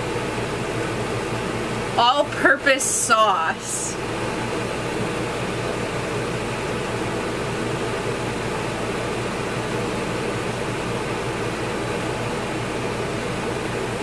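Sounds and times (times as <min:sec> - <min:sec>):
fan hiss with low hum: 0:00.0 - 0:14.0.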